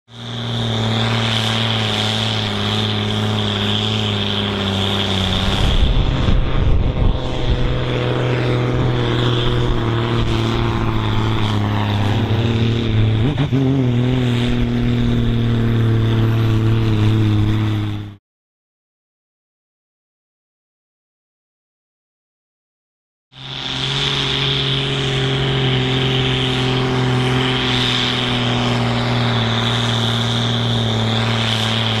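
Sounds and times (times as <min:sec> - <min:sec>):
tractor diesel engine at full load: 0:00.1 - 0:18.2, 0:23.4 - 0:32.0.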